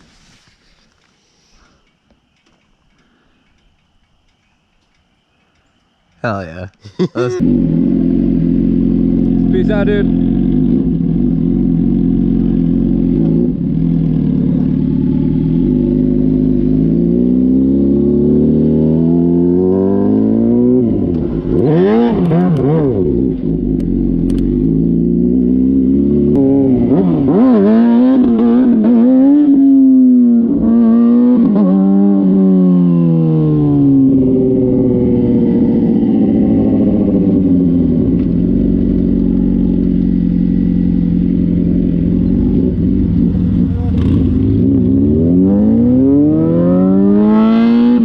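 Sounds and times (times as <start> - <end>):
motorcycle engine revving: 7.4 - 48.0.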